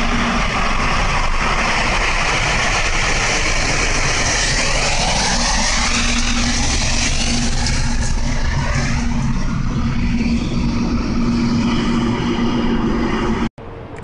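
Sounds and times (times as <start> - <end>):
steady hum: 0.0 - 14.0
train rolling noise: 0.0 - 14.0.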